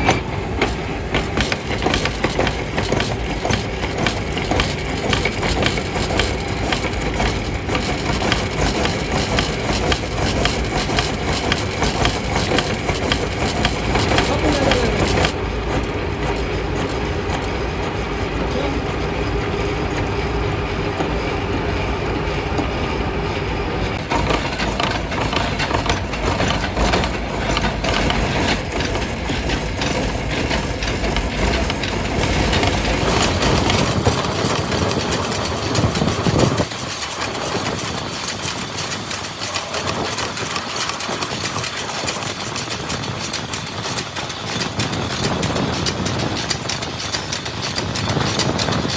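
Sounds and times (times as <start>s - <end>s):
heavy factory machinery clattering: 0.0s - 48.9s.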